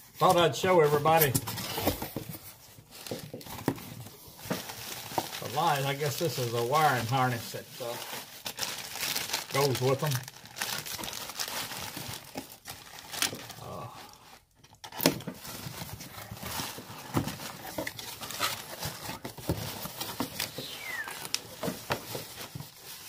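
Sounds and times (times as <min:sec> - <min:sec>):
cardboard box rustling: 0:00.9 - 0:13.6, 0:14.2 - 0:23.0
bubble wrap crinkling: 0:02.6 - 0:23.0.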